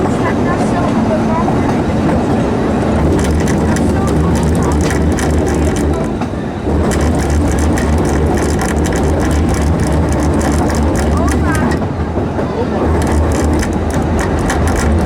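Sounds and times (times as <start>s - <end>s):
train carriages rolling on track: 0.0s - 15.0s.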